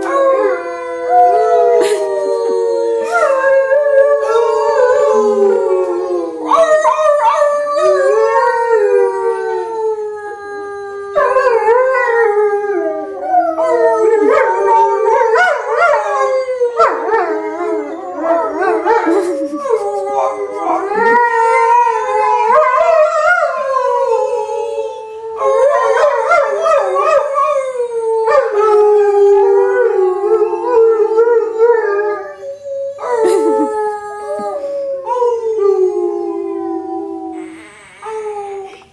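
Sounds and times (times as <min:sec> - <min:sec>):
dogs howling in chorus: 0:00.0 - 0:37.4.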